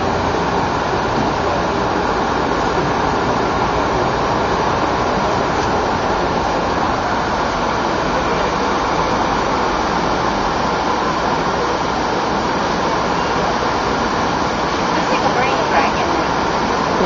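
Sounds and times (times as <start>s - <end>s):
ocean surf roaring: 0.0s - 17.0s.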